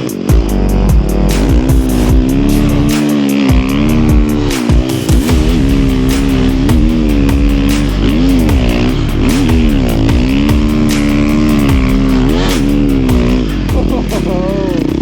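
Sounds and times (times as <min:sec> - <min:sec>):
snow bike engine revving: 0:00.0 - 0:15.0.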